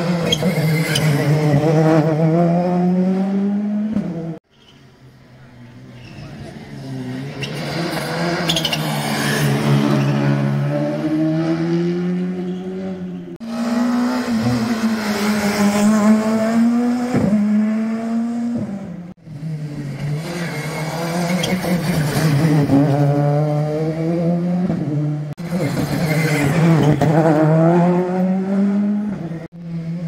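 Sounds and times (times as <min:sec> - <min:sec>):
rally car engines revving: 0:00.0 - 0:04.8, 0:05.5 - 0:30.0.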